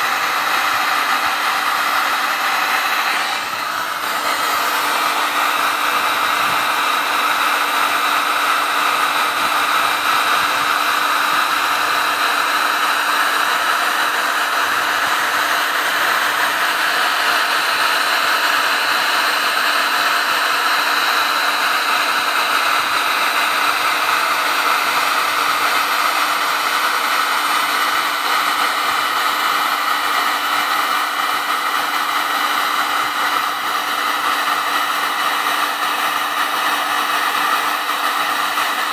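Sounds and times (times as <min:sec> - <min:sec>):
heat gun fan blowing: 0:00.0 - 0:38.9.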